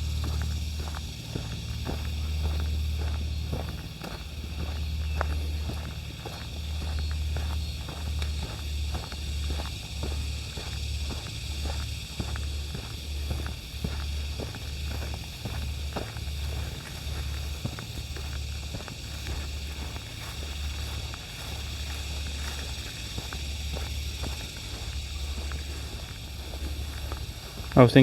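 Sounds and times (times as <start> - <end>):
low pulsing rumble: 0.0 - 27.8
footsteps on trail: 0.0 - 28.0
steady high hiss: 0.0 - 28.0.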